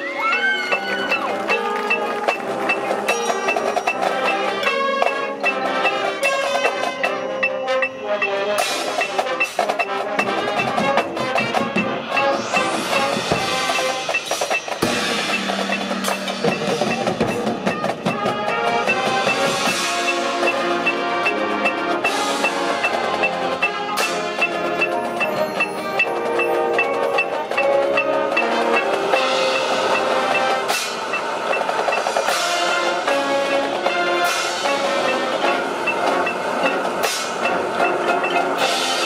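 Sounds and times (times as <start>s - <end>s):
high ticking metronome: 0.0s - 39.0s
marching band playing: 0.0s - 39.0s
marimbas: 0.0s - 39.0s.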